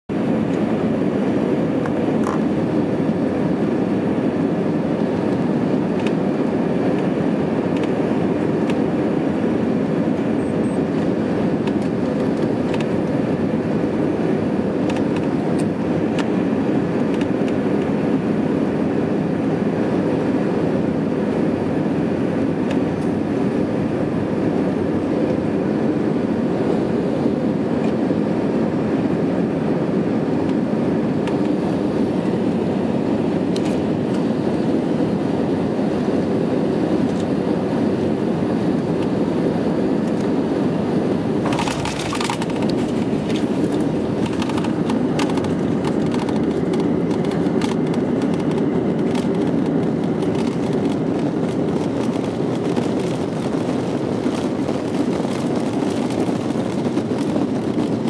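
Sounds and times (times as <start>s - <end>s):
airliner cabin rumble: 0.1s - 58.0s.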